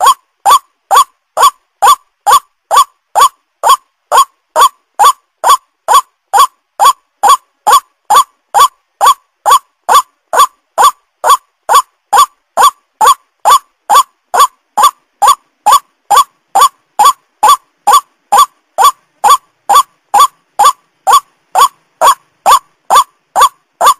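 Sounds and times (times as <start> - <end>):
waterhen calling: 0.0 - 23.9.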